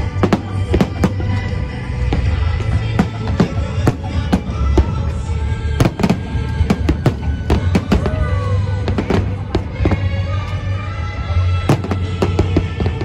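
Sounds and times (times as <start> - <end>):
loud music with deep bass: 0.0 - 13.0.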